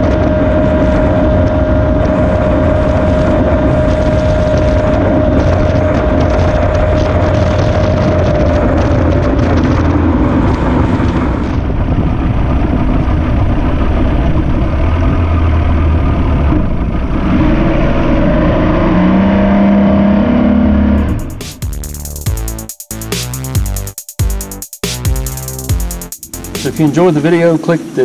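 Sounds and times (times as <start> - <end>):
wind: 0.0 - 21.2, 26.7 - 28.0
outboard engine running: 0.0 - 22.6, 25.1 - 28.0
hull noise: 0.0 - 28.0.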